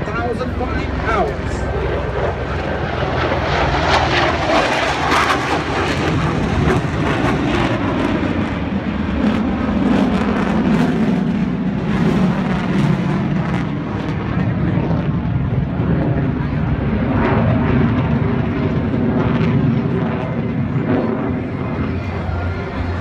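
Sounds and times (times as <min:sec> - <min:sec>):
aircraft engine noise overhead: 0:00.0 - 0:23.0
deep rumble: 0:00.0 - 0:23.0.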